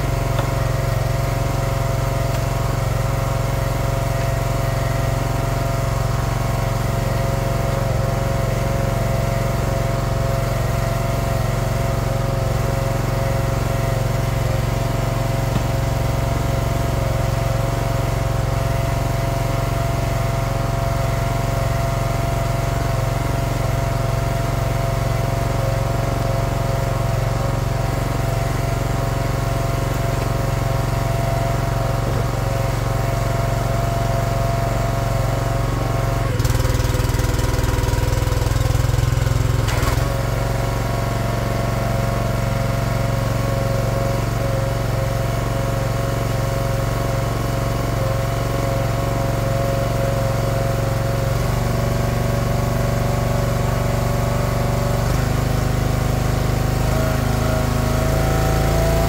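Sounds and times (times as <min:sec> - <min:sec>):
small gas engine running: 0:00.0 - 0:59.0.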